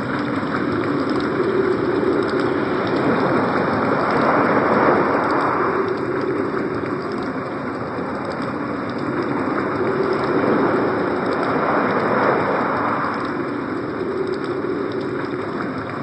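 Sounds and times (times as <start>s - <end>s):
synthesized storm rushing noise: 0.0s - 16.0s.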